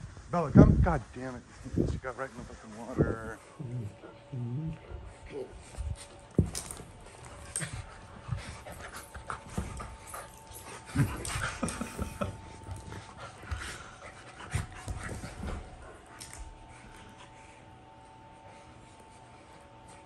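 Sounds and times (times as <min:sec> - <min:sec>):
dog panting: 0:01.0 - 0:20.0.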